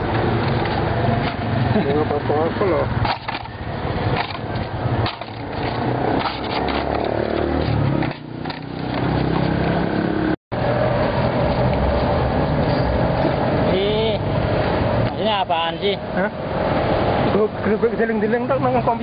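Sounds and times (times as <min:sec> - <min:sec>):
vehicles passing close by: 0:00.0 - 0:19.0.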